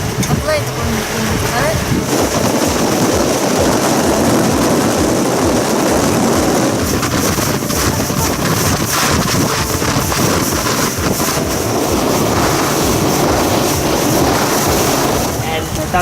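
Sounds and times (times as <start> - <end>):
boat engine: 0.0 - 16.0
water noise: 0.0 - 16.0
wind rushing on microphone: 0.0 - 16.0.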